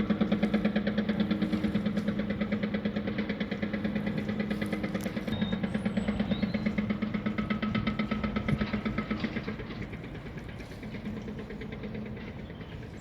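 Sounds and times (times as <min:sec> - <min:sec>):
engine throbbing: 0:00.0 - 0:13.0.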